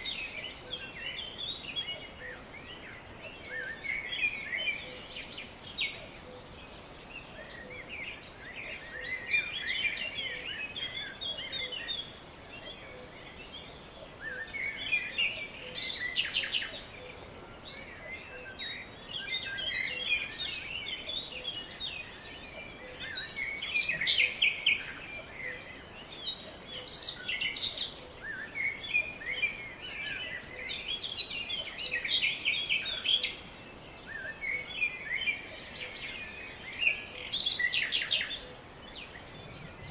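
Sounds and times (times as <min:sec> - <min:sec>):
birds twittering: 0:00.0 - 0:39.9
faint steady hiss: 0:00.0 - 0:39.9.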